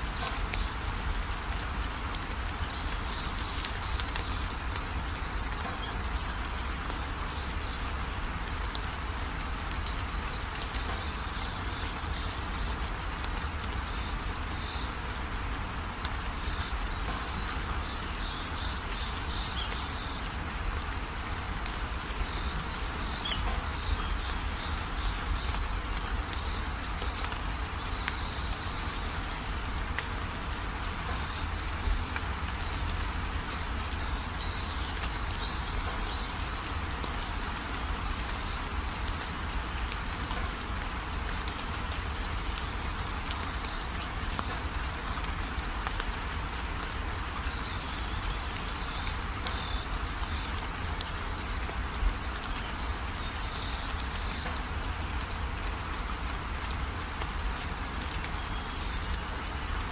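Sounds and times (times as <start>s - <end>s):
rain-like hiss: 0.0s - 59.9s.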